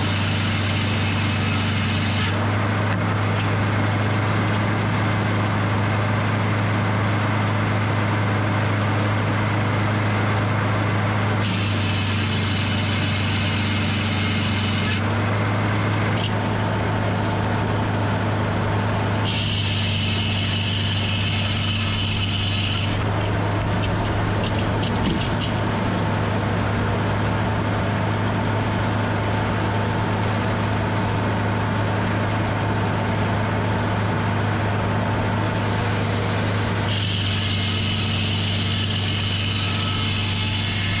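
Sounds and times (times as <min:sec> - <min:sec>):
sawmill engine hum: 0:00.0 - 0:41.0.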